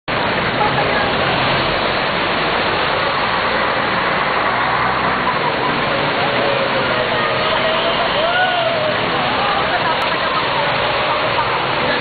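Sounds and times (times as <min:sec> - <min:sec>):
bus engine running: 0:00.1 - 0:12.0
floodwater rushing: 0:00.1 - 0:12.0.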